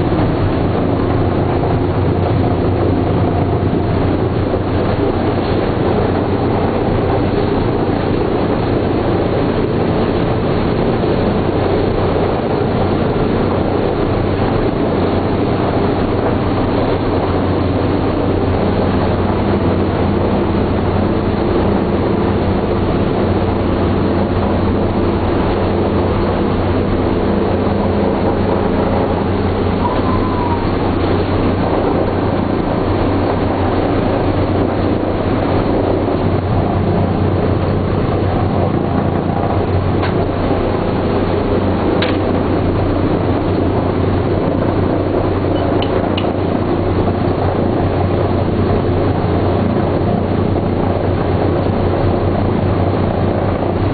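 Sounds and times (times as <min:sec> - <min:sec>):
aircraft radial engines droning: 0:00.0 - 0:53.9.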